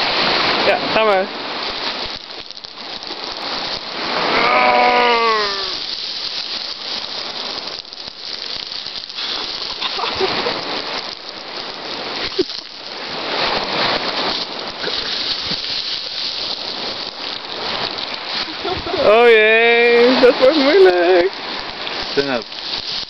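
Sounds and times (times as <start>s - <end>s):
pebbles clattering: 1.6s - 4.0s, 5.3s - 23.0s.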